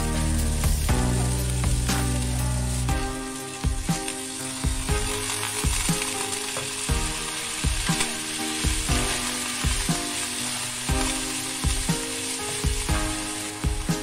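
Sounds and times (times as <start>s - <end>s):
background music: 0.0s - 14.0s
vegetables sizzling in a pan: 0.0s - 14.0s.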